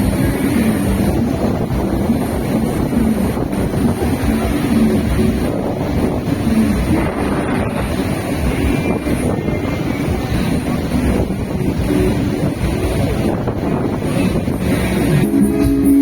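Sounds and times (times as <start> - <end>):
waterfall roaring: 0.0 - 16.0
wind buffeting microphone: 0.0 - 16.0.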